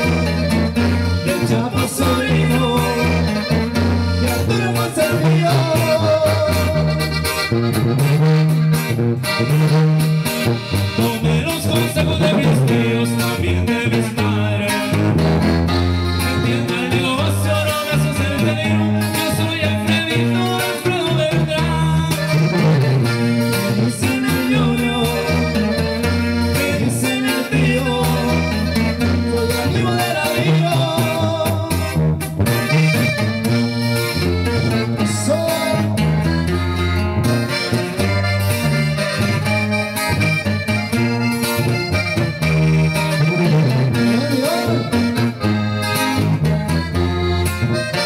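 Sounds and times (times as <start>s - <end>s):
button accordion melody: 0.0s - 48.0s
strummed acoustic guitar: 0.0s - 48.0s
tuba bass notes: 0.0s - 48.0s.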